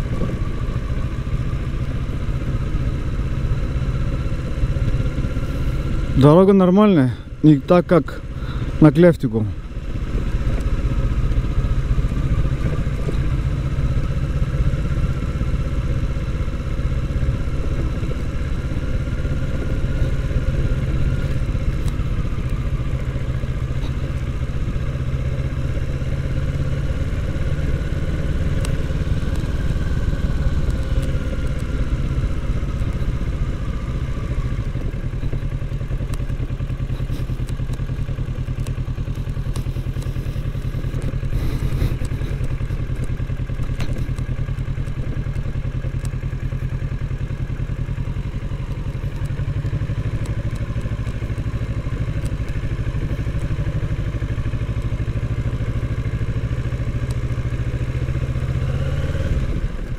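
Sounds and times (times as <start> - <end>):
clatter from bumpy road: 0.0 - 7.2, 7.8 - 59.9
motorcycle engine running: 0.0 - 59.9.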